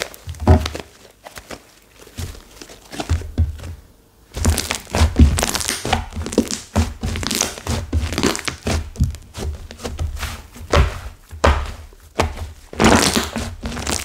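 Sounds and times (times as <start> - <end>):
hard slime crackling: 0.0 - 14.0
soft thuds of kneading: 0.3 - 13.9.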